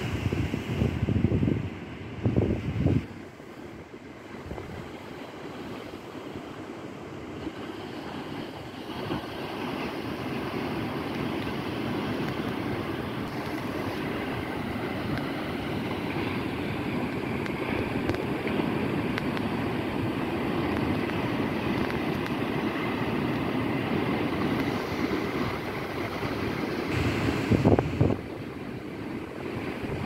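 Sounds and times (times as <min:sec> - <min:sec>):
sea waves washing in: 0:00.0 - 0:30.0.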